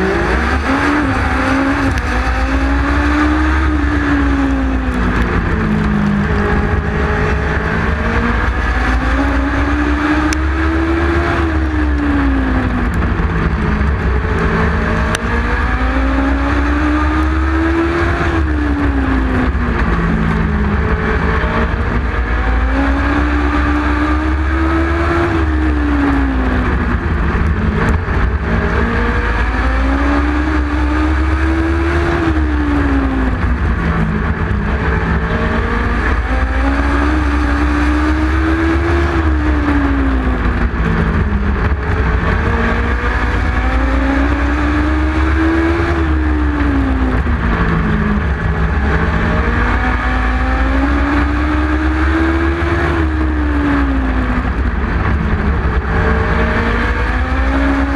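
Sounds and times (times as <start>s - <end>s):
other race car engines: 0.0s - 57.9s
race car engine revving: 0.0s - 57.9s.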